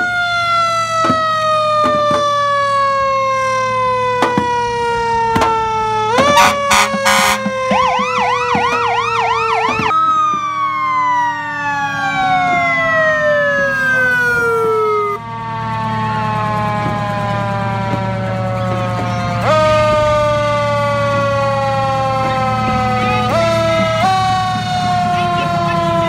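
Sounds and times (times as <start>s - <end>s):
fire engine siren wailing: 0.0s - 26.0s
truck engine rumbling: 0.0s - 26.0s.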